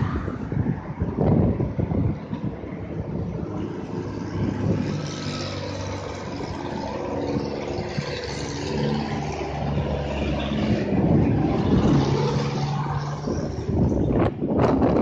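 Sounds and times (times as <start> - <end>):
road traffic passing: 0.0 - 15.0
steady engine hum: 0.0 - 15.0.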